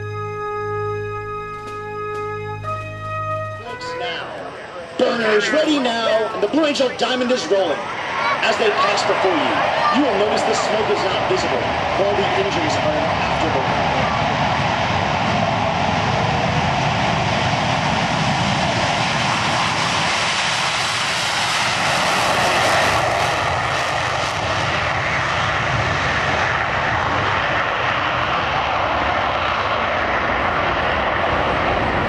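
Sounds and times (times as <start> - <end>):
jet engines in afterburner: 0.0 - 32.0.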